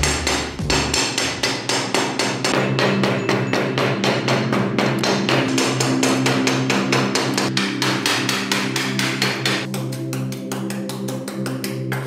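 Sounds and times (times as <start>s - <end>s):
hammer beating on knife blade: 0.0s - 12.0s.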